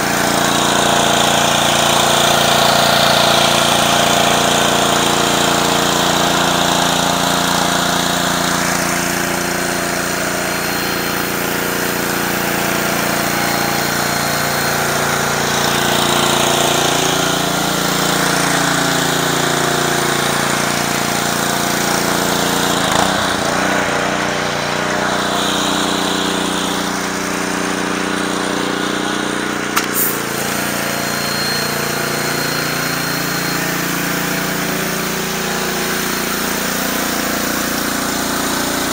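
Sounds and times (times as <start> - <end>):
high-pressure water spraying on concrete: 0.0 - 38.9
small engine running: 0.0 - 38.9.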